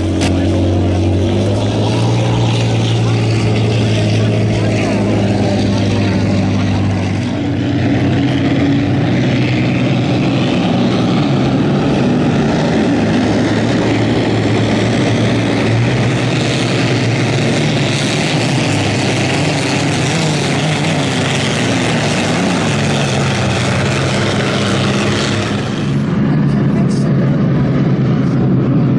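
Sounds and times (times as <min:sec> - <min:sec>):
aircraft engines droning: 0:00.0 - 0:28.9.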